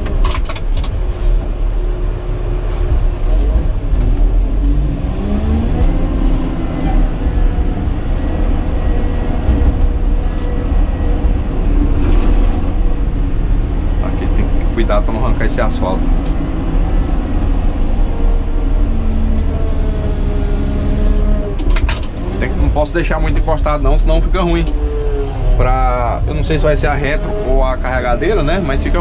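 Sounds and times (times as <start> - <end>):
diesel engine running: 0.0 - 29.0
rising engine whine: 0.0 - 29.0.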